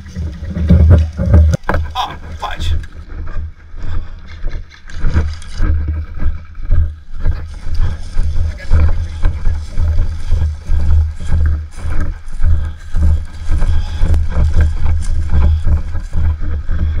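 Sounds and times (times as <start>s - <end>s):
wind buffeting microphone: 0.0s - 17.0s
footsteps on grass: 1.8s - 17.0s.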